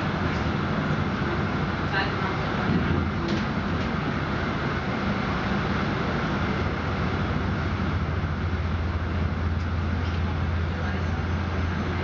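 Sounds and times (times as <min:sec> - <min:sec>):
moving train rumble and hiss: 0:00.0 - 0:12.0.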